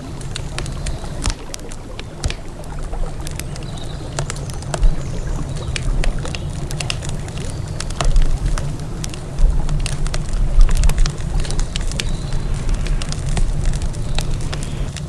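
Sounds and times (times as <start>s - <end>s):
campfire crackling and popping: 0.0s - 15.0s
river rumbling: 0.0s - 15.0s.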